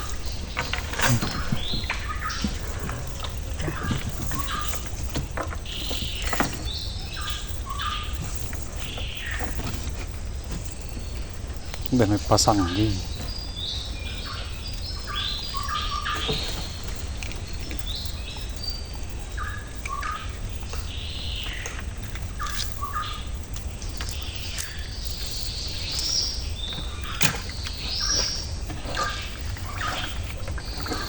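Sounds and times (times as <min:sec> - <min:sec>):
birds chirping and whistling: 0:00.0 - 0:31.0.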